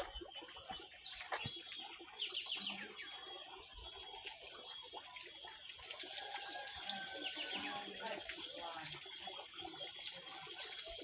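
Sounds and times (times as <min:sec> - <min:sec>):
birds chirping: 0:00.0 - 0:11.0
running water rushing: 0:00.0 - 0:11.0.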